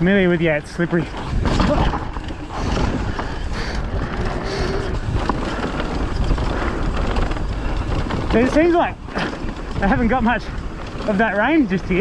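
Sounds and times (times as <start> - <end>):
bike knocking and rattling: 0.0 - 12.0
bike tyres rolling over dirt: 0.0 - 12.0
wind buffeting microphone: 0.0 - 12.0.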